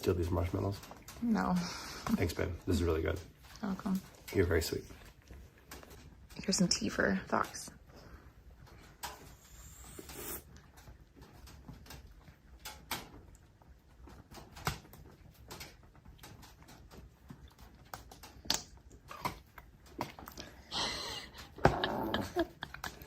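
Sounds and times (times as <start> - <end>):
household objects clicking and knocking: 0.0 - 23.0.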